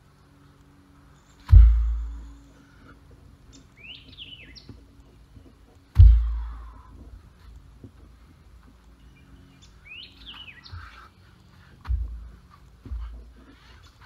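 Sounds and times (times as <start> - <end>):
birds chirping: 0.3 - 14.0.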